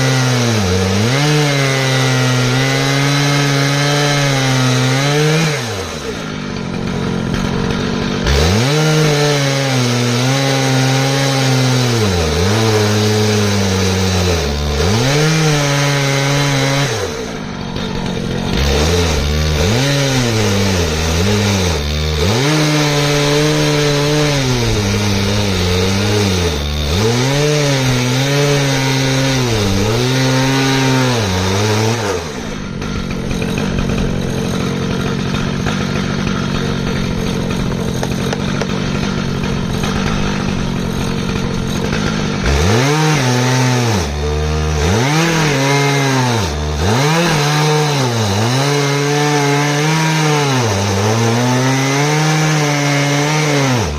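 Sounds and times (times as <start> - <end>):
chainsaw cutting log under load: 0.0 - 53.9.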